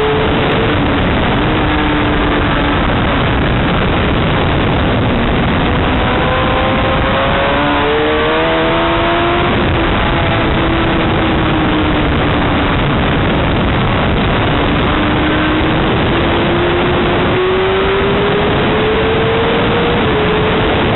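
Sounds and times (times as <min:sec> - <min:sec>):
racing motorcycle engines: 0:00.0 - 0:20.9.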